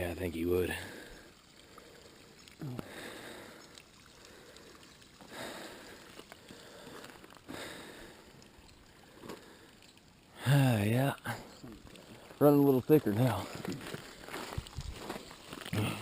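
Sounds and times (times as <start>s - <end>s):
faint running spring water: 0.0s - 16.0s.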